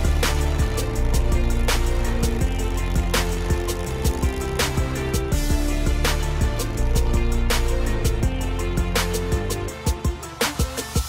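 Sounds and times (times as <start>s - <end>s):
held bass notes: 0.0s - 10.0s
background music: 0.0s - 11.0s
steady drum beat: 0.0s - 11.0s.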